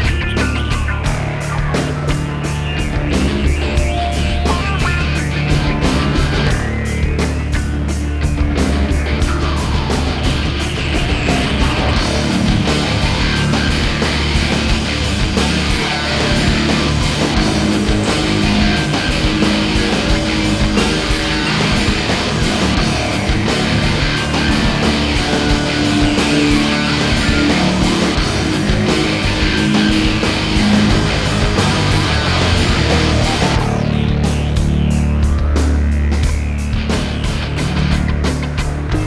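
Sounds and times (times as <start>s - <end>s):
distorted electric guitar: 0.0s - 39.0s
driving beat: 0.0s - 39.0s
heavy rock music: 0.0s - 39.0s.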